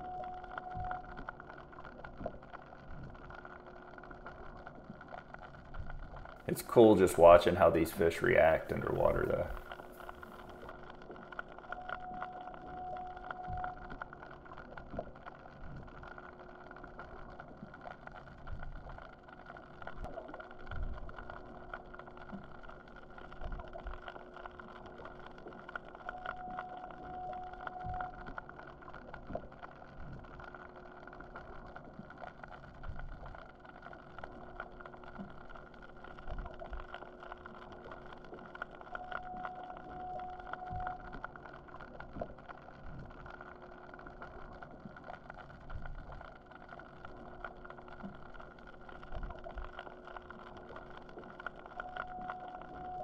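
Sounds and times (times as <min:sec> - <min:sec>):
clicks and crackles: 0:00.0 - 0:53.0
underwater tonal hum: 0:00.0 - 0:53.0.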